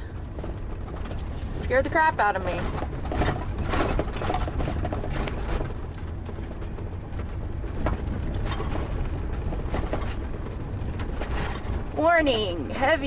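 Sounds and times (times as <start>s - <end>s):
engine and tyre rumble: 0.0s - 13.0s
knocks and rattles: 0.0s - 13.0s.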